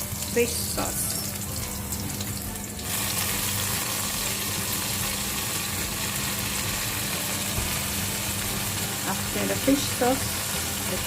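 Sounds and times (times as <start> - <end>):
ginger sizzling in hot oil: 0.0 - 11.0.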